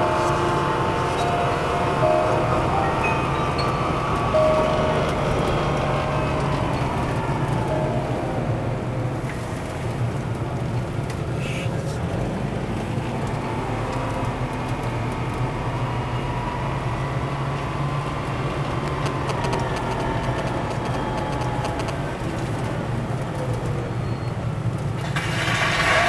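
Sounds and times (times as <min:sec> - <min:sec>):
car engine running: 0:00.0 - 0:13.3, 0:15.1 - 0:23.3
road noise: 0:00.0 - 0:26.0.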